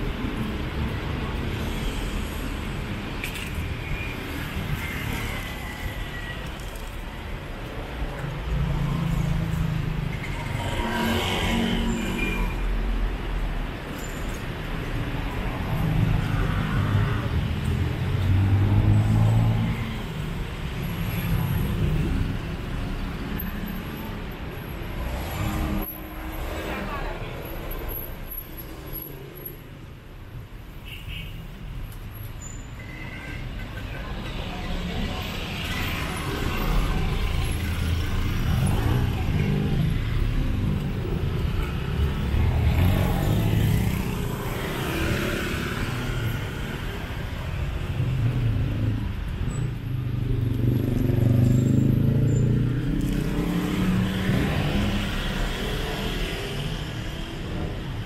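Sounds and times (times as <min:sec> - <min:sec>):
vehicles passing by: 0:00.0 - 0:30.8, 0:31.4 - 0:58.0.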